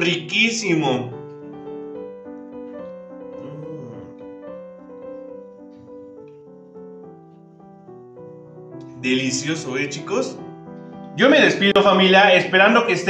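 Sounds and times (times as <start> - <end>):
soft piano melody: 0.0 - 13.0.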